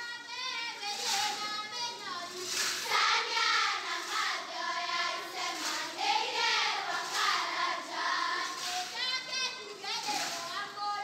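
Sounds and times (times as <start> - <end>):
group of voices singing: 2.2 - 11.0.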